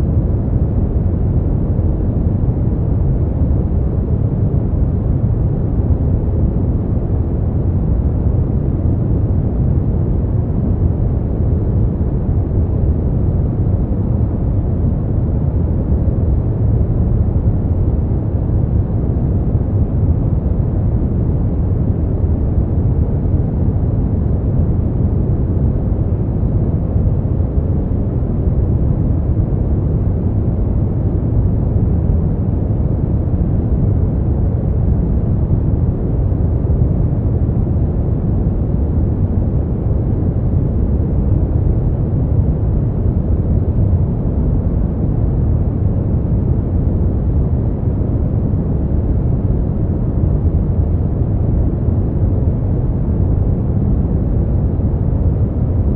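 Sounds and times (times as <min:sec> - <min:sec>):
brown noise rumbling hiss: 0:00.0 - 0:55.9.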